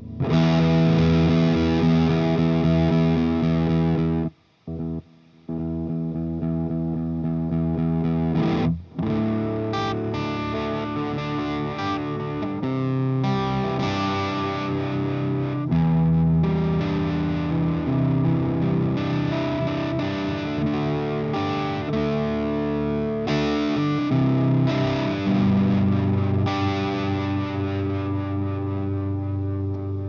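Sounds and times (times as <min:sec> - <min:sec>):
fuzz-distorted electric guitar: 0:00.0 - 0:30.0.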